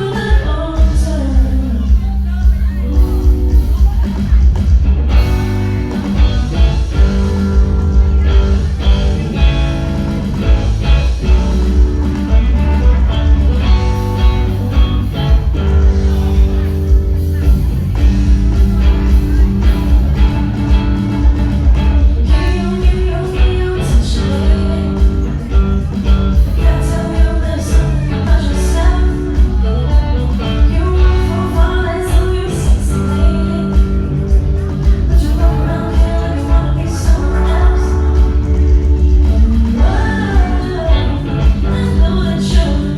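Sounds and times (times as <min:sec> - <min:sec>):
booming bass: 0:00.0 - 0:42.9
live band with singing: 0:00.0 - 0:42.9.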